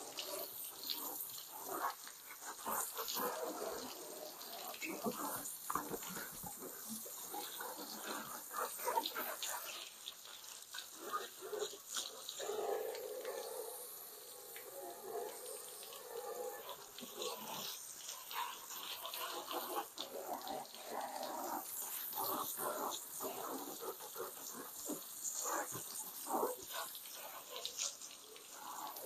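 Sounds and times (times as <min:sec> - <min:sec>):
hose water splashing on car: 0:00.0 - 0:29.0.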